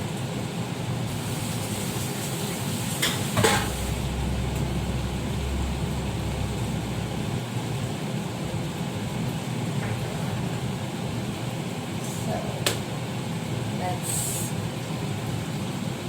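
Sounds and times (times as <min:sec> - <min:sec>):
steady low hum: 0:03.0 - 0:16.0.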